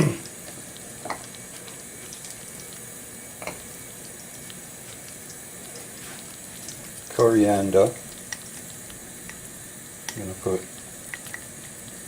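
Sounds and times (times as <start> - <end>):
pots of water hissing: 0.0 - 12.0.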